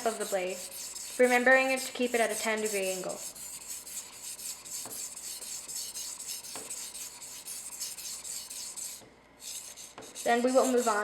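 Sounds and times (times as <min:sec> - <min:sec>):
knife scraping on whetstone: 0:00.0 - 0:11.0.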